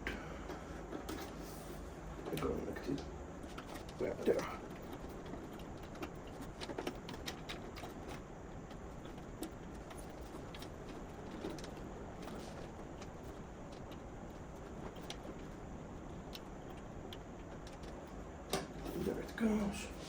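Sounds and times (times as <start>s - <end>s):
low background hum: 0.0s - 20.0s
cables and plastic parts clicking: 2.2s - 19.4s.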